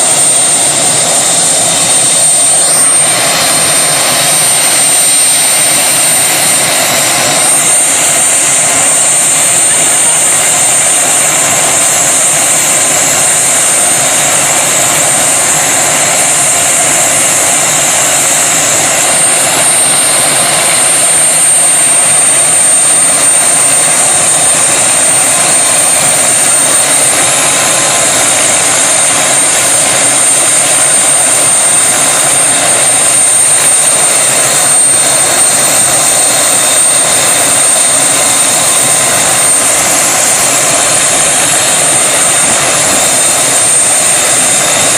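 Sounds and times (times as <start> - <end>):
helicopter engine and rotor drone: 0.0 - 44.9
high whine: 0.0 - 44.9.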